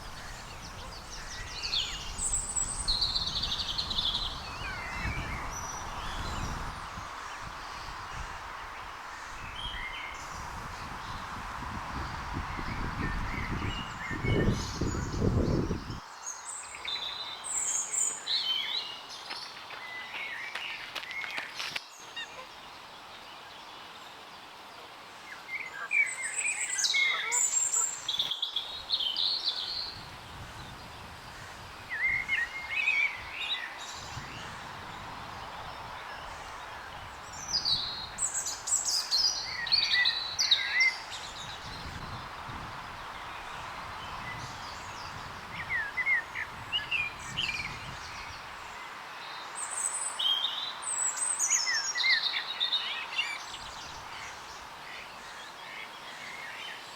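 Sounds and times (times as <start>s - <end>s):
outdoor background hiss: 0.0s - 56.9s
songbirds chirping: 0.0s - 56.9s.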